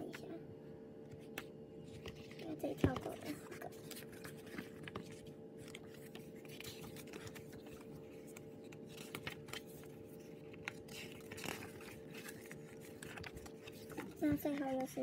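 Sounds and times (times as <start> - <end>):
steady hum: 0.0 - 15.0
book pages turning: 1.1 - 15.0.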